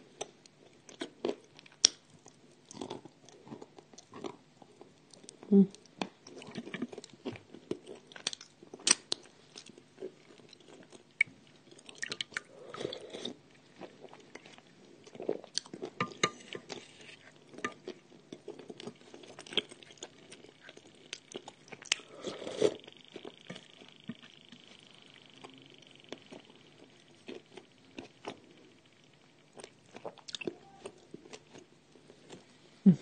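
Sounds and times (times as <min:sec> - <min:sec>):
person chewing and crunching food: 0:00.0 - 0:33.0.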